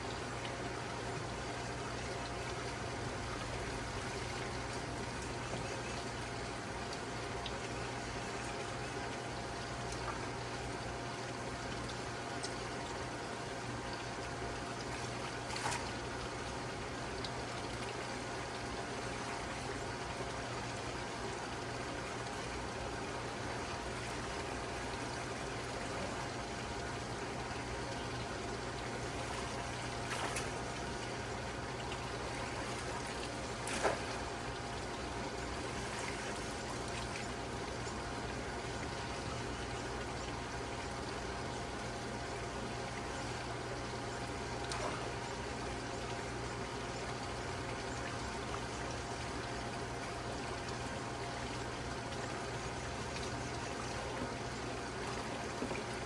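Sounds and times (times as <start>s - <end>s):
trickling water: 0.0s - 56.0s.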